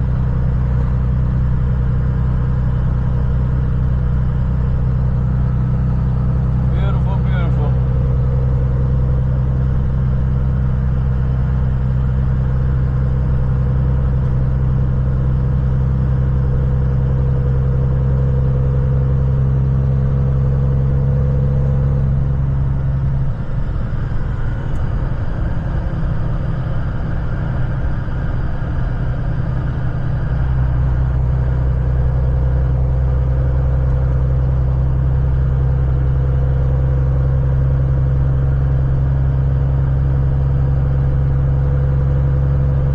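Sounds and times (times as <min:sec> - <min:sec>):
truck diesel engine droning: 0:00.0 - 0:42.9.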